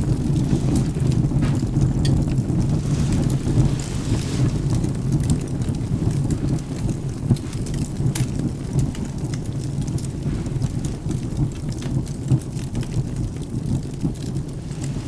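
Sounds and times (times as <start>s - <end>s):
thunder rumble: 0.0s - 13.9s
rain: 0.0s - 15.0s
wood fire crackling: 0.0s - 15.0s.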